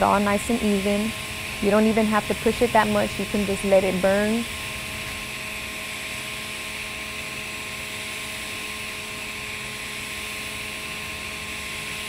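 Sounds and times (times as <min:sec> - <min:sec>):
welding arc hissing: 0:00.0 - 0:12.0.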